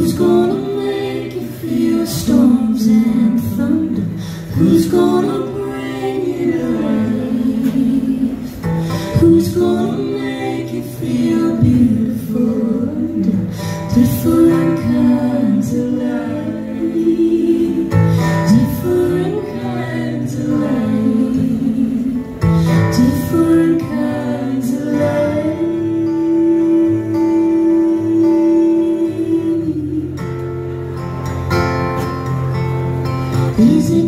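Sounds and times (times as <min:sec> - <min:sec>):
woman singing: 0:00.0 - 0:30.4, 0:33.5 - 0:34.0
women singing harmony: 0:00.0 - 0:30.5, 0:33.5 - 0:34.0
strummed acoustic guitar: 0:00.0 - 0:34.0.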